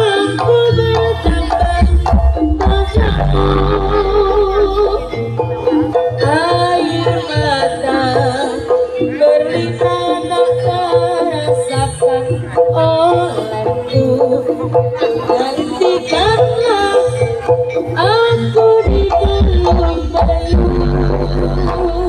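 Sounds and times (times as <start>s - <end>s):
low drum beat: 0.0s - 22.0s.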